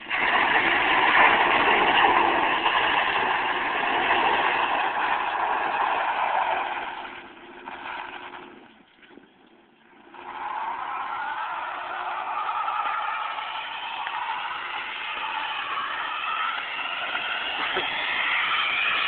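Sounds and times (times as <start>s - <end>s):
truck engine at high revs: 0.0s - 9.2s, 9.8s - 19.0s
tires spinning on pavement: 0.0s - 19.0s.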